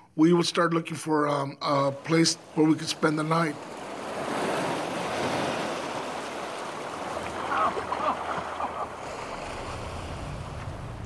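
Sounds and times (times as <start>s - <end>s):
waves splashing on rocks: 1.8s - 11.0s.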